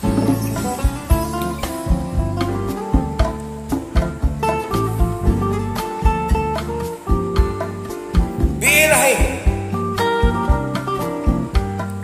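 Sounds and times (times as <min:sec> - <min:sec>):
low beat: 0:00.0 - 0:11.9
plucked guitar: 0:00.0 - 0:12.0
slow bolero backing track: 0:00.0 - 0:12.0.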